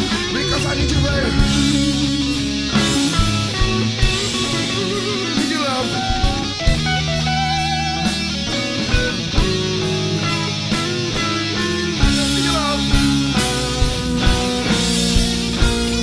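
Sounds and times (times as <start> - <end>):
electric guitar lead: 0.0 - 16.0
rock band with drums: 0.0 - 16.0.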